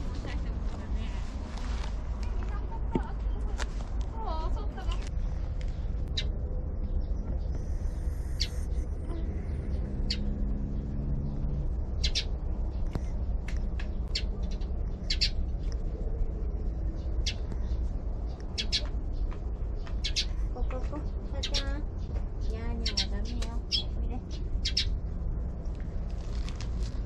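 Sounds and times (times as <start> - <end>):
steady low rumble: 0.0 - 27.0
birds chirping: 2.2 - 25.1.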